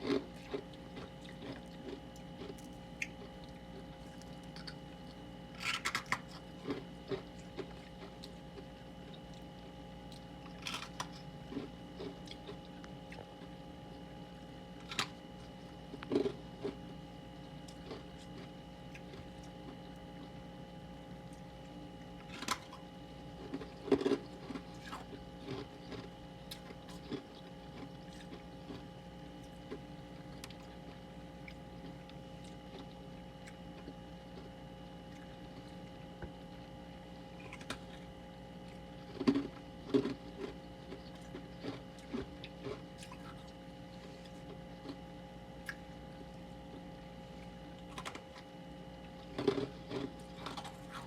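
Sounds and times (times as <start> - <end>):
frost crunching when chewed: 0.0 - 51.0
steady hum: 0.0 - 51.0.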